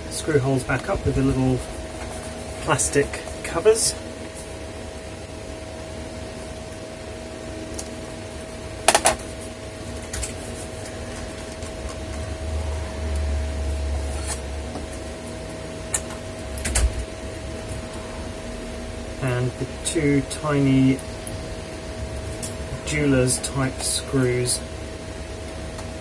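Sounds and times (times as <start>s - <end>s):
room fan humming: 0.0s - 26.0s.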